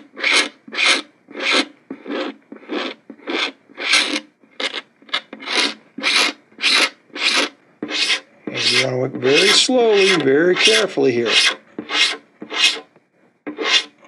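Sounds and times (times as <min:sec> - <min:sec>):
razor blade scraping: 0:00.2 - 0:12.9, 0:13.5 - 0:14.0.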